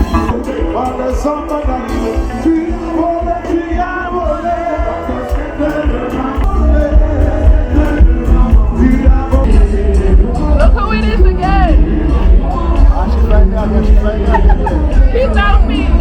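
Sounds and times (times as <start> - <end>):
heavy bass line: 0.0 - 16.0
live band music: 0.0 - 16.0
person singing: 0.0 - 16.0.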